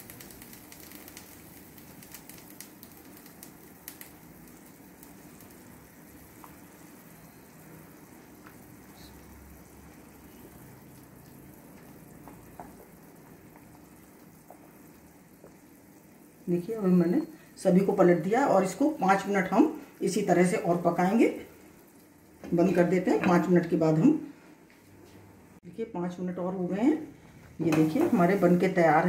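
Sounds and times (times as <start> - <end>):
syrup boiling and bubbling: 0.0 - 24.0.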